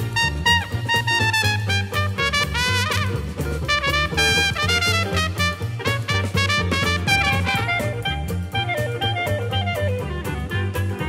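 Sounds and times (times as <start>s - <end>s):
jazzy lead melody: 0.0s - 11.0s
steady bass line: 0.0s - 11.0s.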